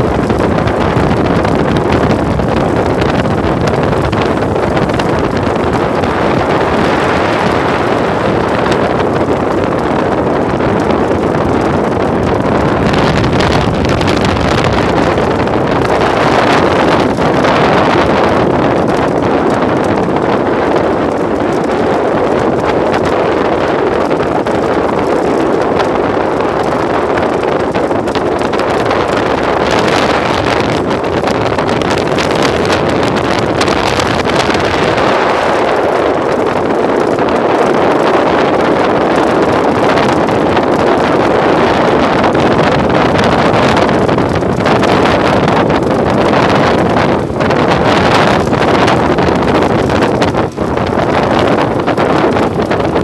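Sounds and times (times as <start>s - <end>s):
boat engine noise: 0.0s - 53.0s
water rushing: 0.0s - 53.0s
wind buffeting microphone: 0.0s - 53.0s.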